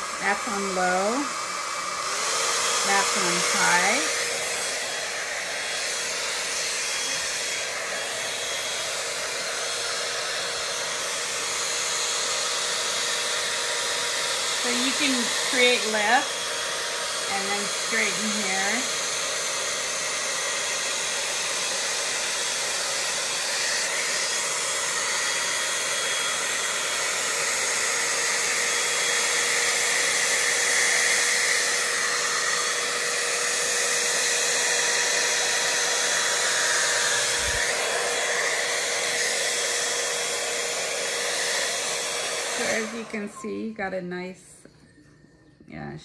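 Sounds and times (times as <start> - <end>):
hot-air dryer brush blowing: 0.0 - 44.4.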